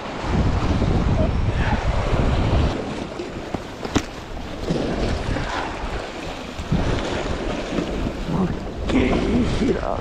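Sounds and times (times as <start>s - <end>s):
surf washing against rocks: 0.0s - 10.0s
wind buffeting microphone: 0.0s - 10.0s.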